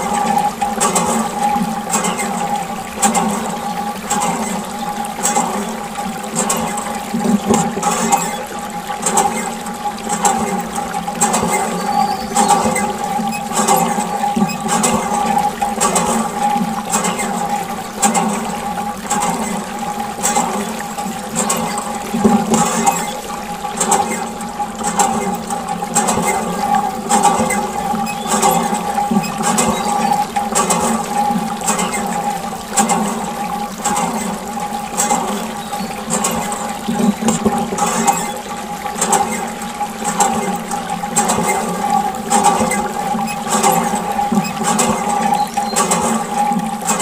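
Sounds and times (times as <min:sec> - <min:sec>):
water pouring and splashing: 0:00.0 - 0:47.0.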